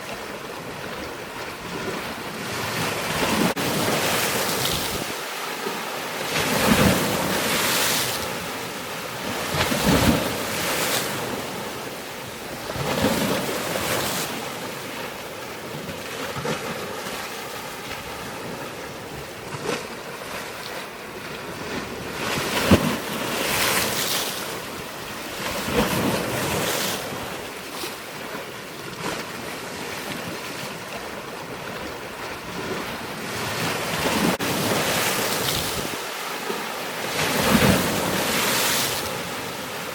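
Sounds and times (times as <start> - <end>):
water washing in surges: 0.0 - 39.9.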